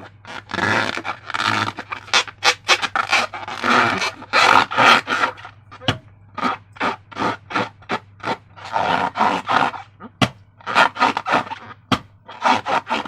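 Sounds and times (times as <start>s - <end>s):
slime squelching: 0.0s - 13.0s.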